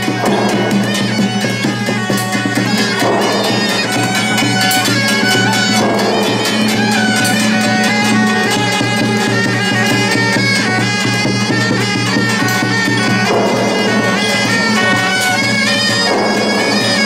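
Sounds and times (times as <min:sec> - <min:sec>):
drums and cymbals beat: 0:00.0 - 0:17.0
reedy suona music: 0:00.0 - 0:17.0.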